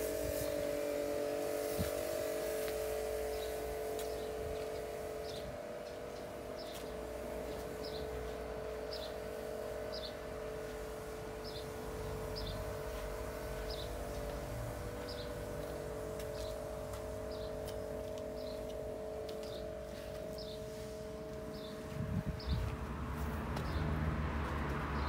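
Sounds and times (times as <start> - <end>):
steady two-tone hum: 0.0 - 23.2.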